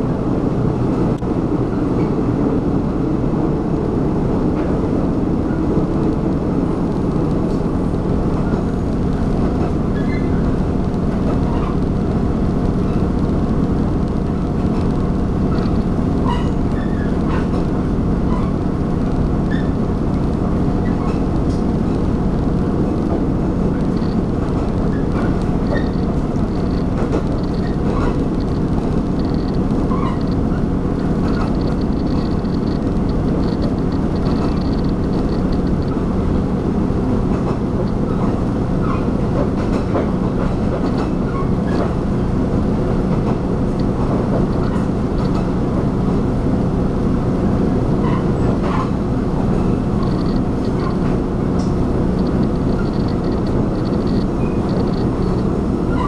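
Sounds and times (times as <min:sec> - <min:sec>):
train rumble from inside carriage: 0:00.0 - 0:56.0.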